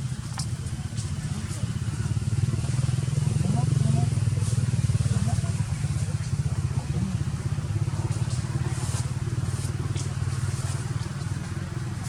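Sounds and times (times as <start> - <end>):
small engine running: 0.3 - 12.0.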